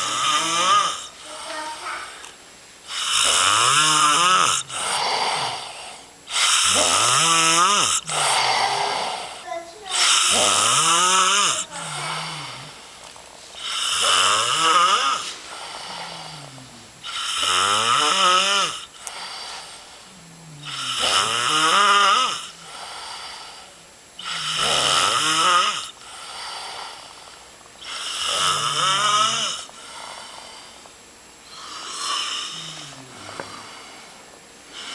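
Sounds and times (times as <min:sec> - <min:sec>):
person snoring: 0:00.0 - 0:02.3, 0:02.9 - 0:30.8, 0:31.4 - 0:34.9.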